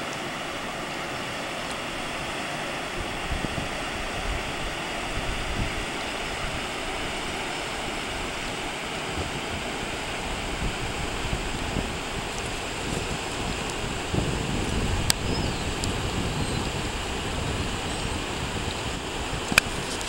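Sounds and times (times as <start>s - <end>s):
river rapids rushing: 0.0s - 20.0s
wind buffeting microphone: 1.9s - 20.0s.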